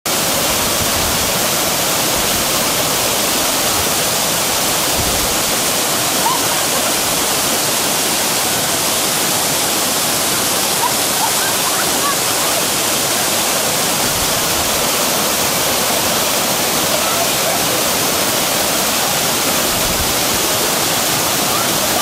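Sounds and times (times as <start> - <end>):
waterfall rushing: 0.1 - 22.0.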